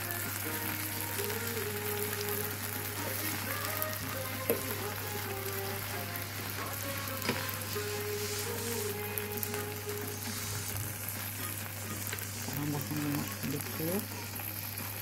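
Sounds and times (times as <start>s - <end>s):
food sizzling on a griddle: 0.0s - 15.0s.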